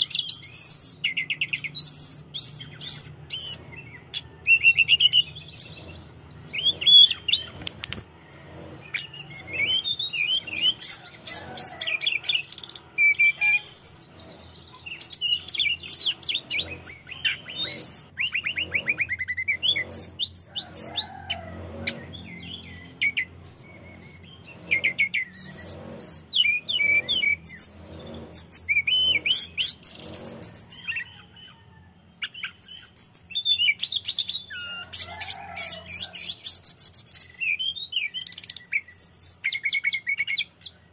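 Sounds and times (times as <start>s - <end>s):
bird singing whistled trills: 0.0s - 20.9s, 22.0s - 35.1s, 35.9s - 40.9s.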